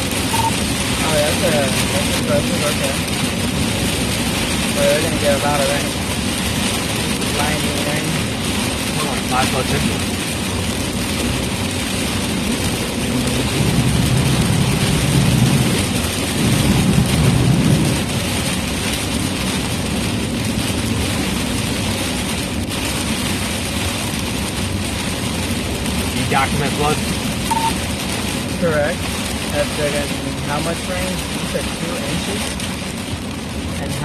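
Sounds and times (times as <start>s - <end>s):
heavy rain: 0.0s - 34.0s
low rumble: 0.0s - 34.0s
road noise: 0.0s - 34.0s.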